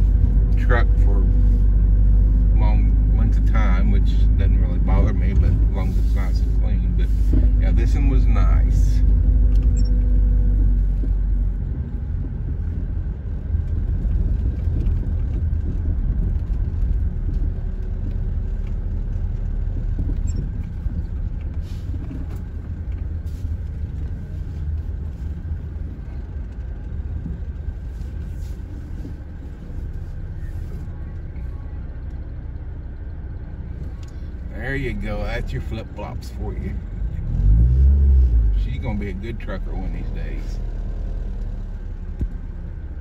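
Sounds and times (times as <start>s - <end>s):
vehicle rumble from inside cab: 0.0s - 43.0s.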